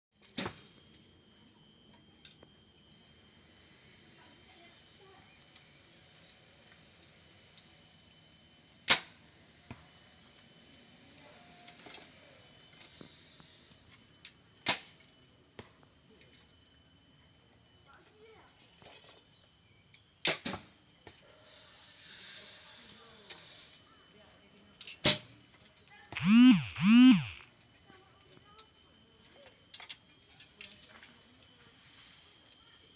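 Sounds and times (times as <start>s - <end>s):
insects droning: 0.2s - 32.9s.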